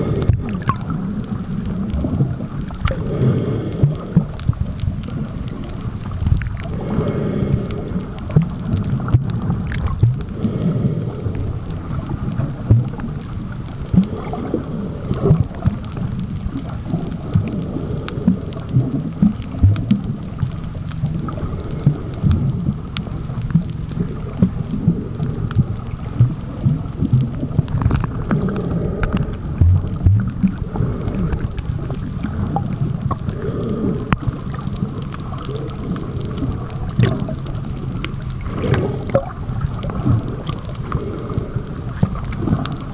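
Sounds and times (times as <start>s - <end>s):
muffled underwater rumble: 0.0s - 42.9s
underwater knocks and gurgles: 0.0s - 42.9s.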